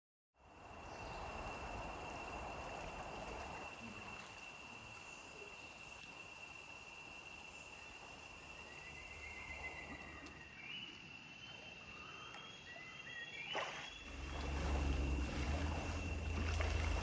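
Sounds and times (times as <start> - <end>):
high insect drone: 0.4 - 17.0.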